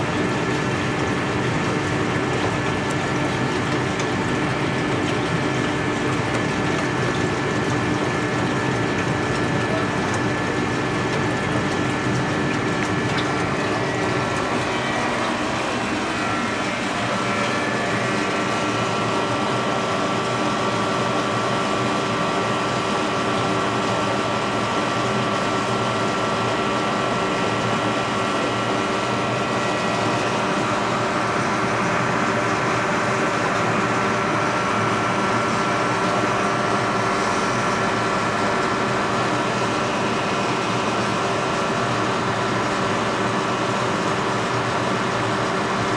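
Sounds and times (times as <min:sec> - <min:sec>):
aquarium pumps humming: 0:00.0 - 0:45.9.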